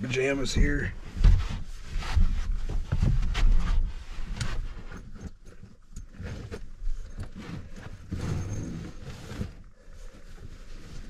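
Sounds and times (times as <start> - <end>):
clothes rustling: 0.4 - 11.0.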